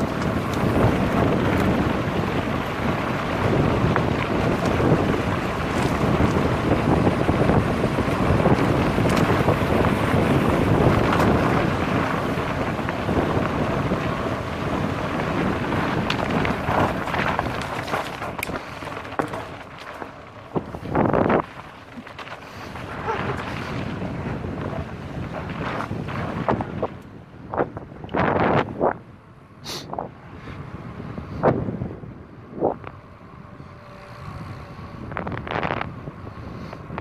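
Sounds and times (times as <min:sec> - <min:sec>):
bike rattling over stones: 0:00.0 - 0:29.0, 0:32.3 - 0:37.0
wind rushing over microphone: 0:00.0 - 0:37.0.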